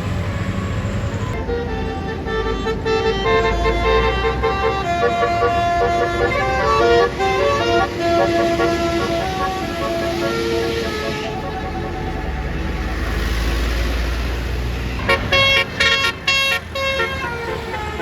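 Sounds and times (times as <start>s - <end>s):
low rumble of bus: 0.0s - 18.0s
bus air horn melody: 0.6s - 12.9s, 15.0s - 18.0s.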